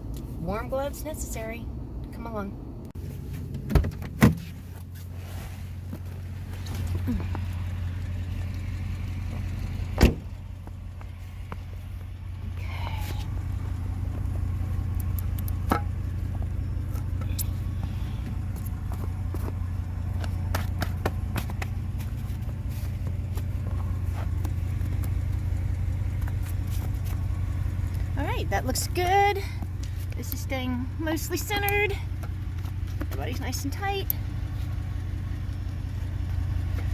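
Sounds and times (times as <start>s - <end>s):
truck engine idling: 2.9s - 36.9s.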